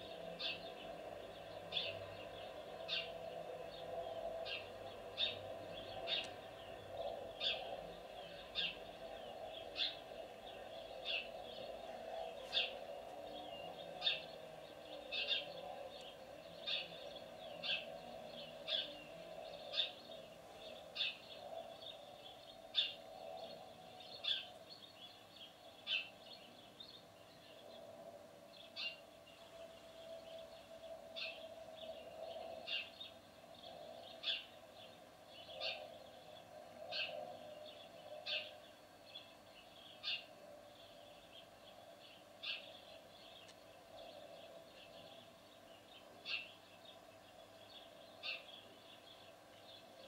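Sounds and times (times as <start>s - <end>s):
sparrow chirping: 0.0s - 27.9s, 30.0s - 50.0s.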